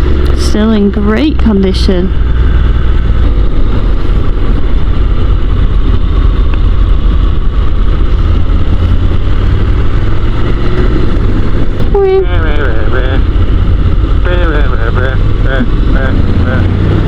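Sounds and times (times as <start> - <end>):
motorcycle engine rumble: 0.0 - 17.0
wind noise on microphone: 0.0 - 17.0.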